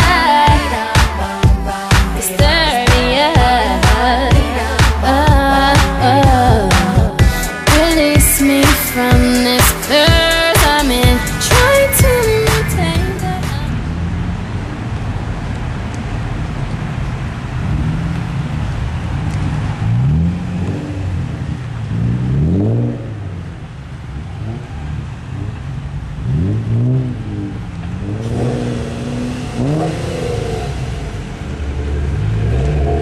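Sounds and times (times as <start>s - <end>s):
sports cars revving past: 0.0s - 33.0s.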